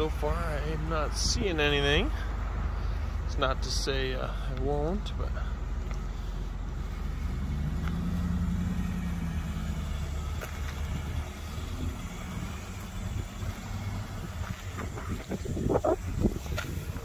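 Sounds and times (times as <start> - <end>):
steady low rumble: 0.0 - 17.0
vehicle engine humming at low revs: 0.0 - 17.0.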